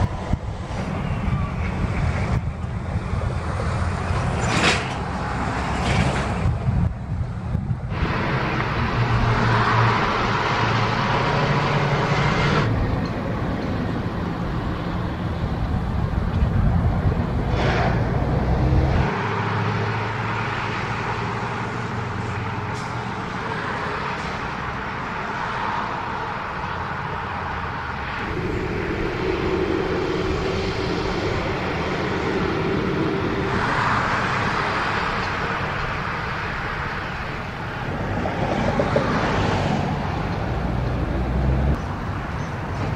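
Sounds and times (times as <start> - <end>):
tyre noise on road: 0.0 - 42.9
vehicle engines running low: 0.0 - 42.9.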